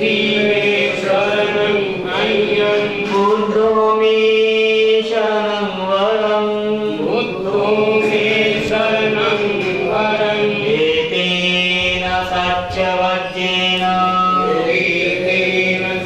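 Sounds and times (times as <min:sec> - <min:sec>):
congregation chanting: 0:00.0 - 0:16.0
man chanting over loudspeaker: 0:00.0 - 0:16.0.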